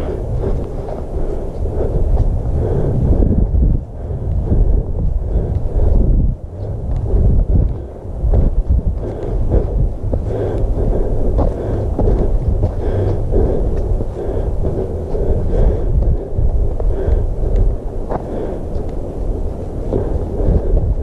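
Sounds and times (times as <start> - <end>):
soft crunch of footsteps: 0.0 - 21.0
wind buffeting microphone: 0.0 - 21.0.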